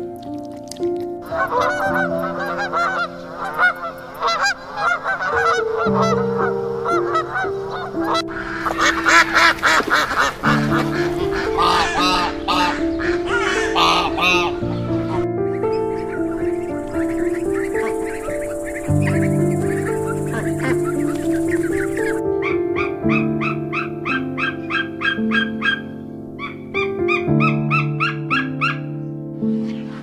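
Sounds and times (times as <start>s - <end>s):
soft piano music: 0.0s - 30.0s
waterfowl honking calls: 1.2s - 28.8s.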